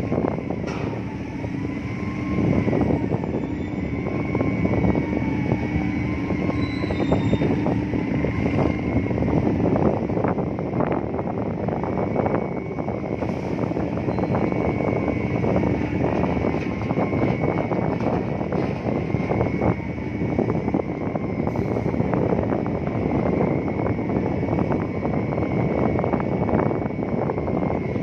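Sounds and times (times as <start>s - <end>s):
engine drone: 0.0s - 28.0s
wind buffeting microphone: 0.0s - 28.0s.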